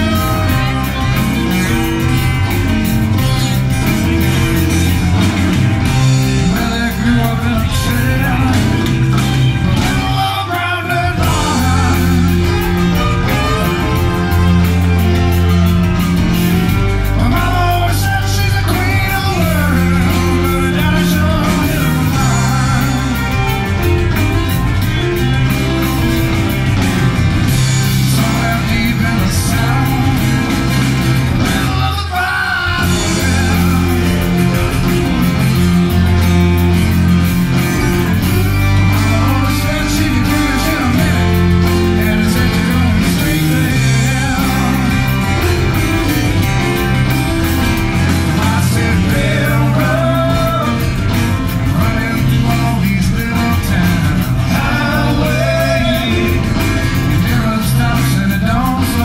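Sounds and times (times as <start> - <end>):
acoustic guitars: 0.0 - 59.0
drums: 0.0 - 59.0
electric bass: 0.0 - 59.0
keyboard: 0.0 - 59.0.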